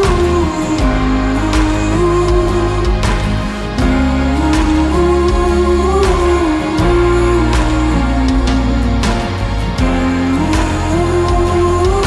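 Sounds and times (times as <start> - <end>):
sharp percussive hits: 0.0 - 12.0
sustained low melody: 0.0 - 12.0.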